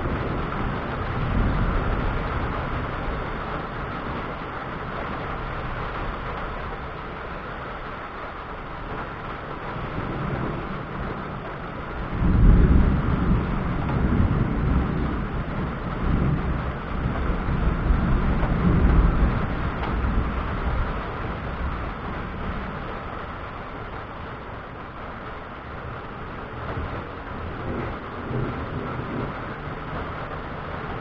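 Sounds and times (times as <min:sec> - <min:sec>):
thunder rumbling: 0:00.0 - 0:31.0.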